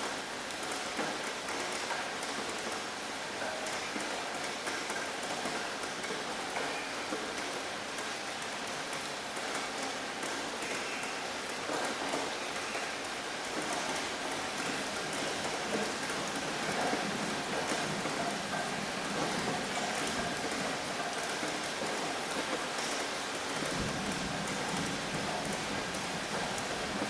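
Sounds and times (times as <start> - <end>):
rain pattering: 0.0 - 27.0.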